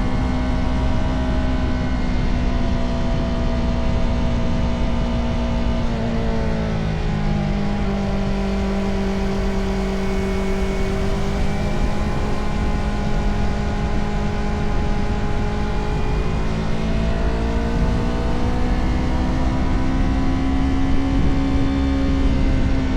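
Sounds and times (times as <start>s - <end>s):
low rumble: 0.0s - 22.4s
motorcycle engine running: 0.0s - 22.9s.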